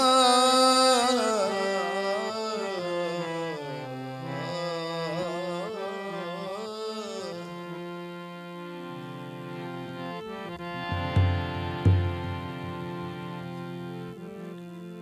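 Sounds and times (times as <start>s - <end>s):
ornamented melody: 1.3s - 15.0s.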